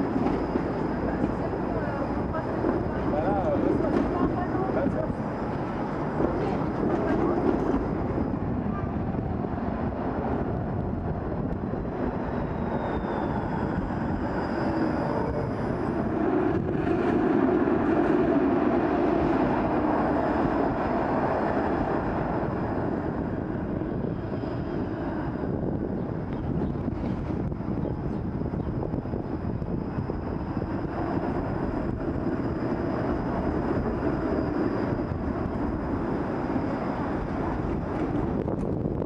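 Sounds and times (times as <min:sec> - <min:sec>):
street traffic rumble: 0:00.0 - 0:39.0
streetcar running on rails: 0:00.0 - 0:39.0.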